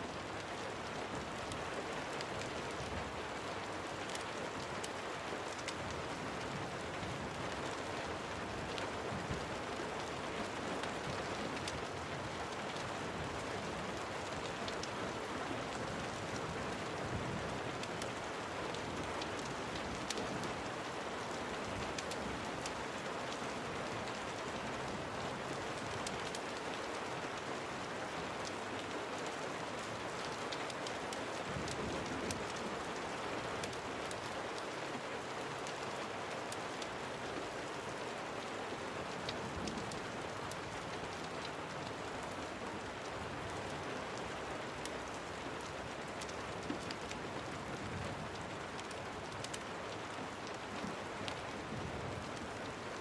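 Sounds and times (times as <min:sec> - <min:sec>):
steady rain falling: 0:00.0 - 0:53.0
wood fire crackling: 0:00.1 - 0:27.5, 0:28.3 - 0:34.7, 0:38.8 - 0:47.5, 0:48.1 - 0:52.8.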